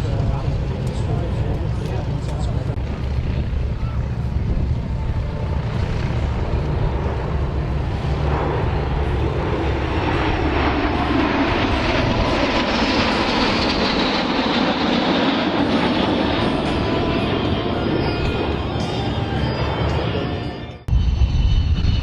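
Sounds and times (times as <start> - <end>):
airplane engine drone: 0.0 - 22.0.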